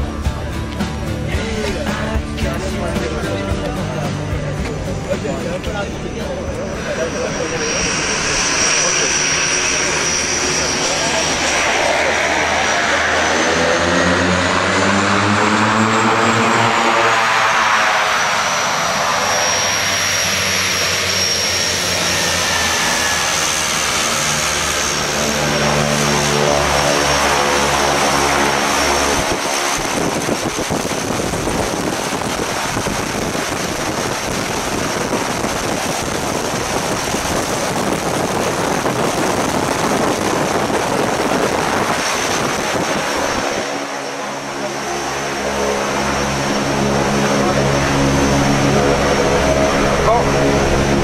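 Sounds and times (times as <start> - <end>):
loud rushing noise: 0.0 - 51.0
propeller engine running: 0.0 - 51.0.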